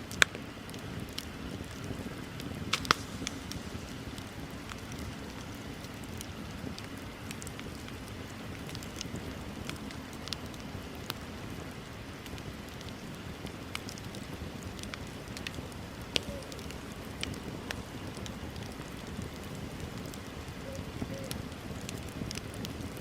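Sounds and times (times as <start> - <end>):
bonfire burning: 0.0 - 23.0
fire crackling and popping: 0.0 - 23.0.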